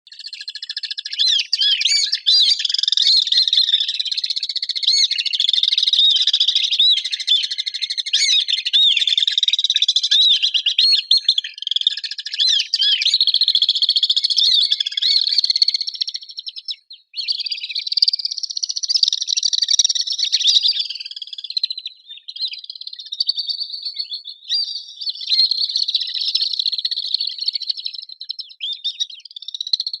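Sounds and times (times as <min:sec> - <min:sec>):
swifts shrill trilling calls: 0:00.1 - 0:30.0.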